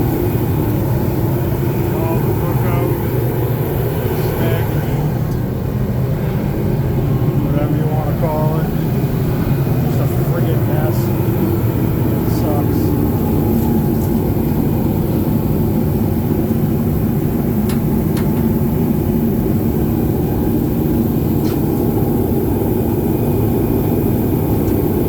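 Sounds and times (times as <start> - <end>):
loud machine rumble: 0.0 - 25.0.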